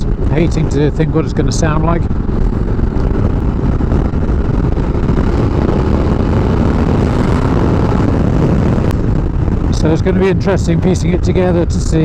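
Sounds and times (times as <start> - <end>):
motorcycle engine: 0.0 - 12.0
wind rush: 0.0 - 12.0.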